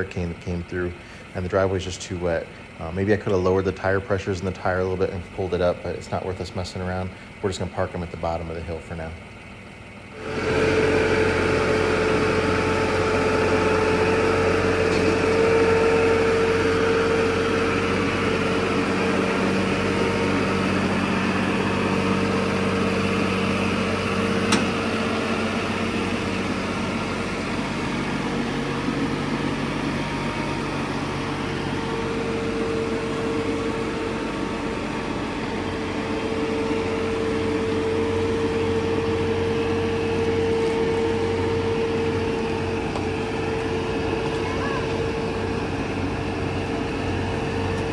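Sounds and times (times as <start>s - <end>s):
mid-pitched whine: 0.0s - 47.9s
vehicle engine idling: 0.0s - 47.9s.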